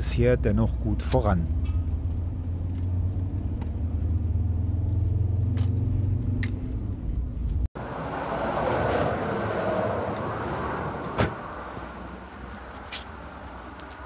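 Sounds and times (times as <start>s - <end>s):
road and engine noise in car cabin: 0.0s - 14.0s.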